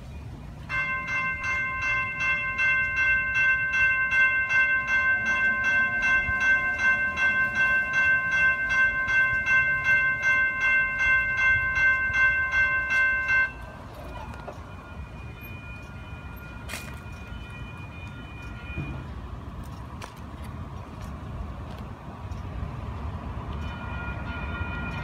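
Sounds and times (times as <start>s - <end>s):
railroad crossing bell ringing: 0.6s - 20.2s, 23.2s - 25.0s.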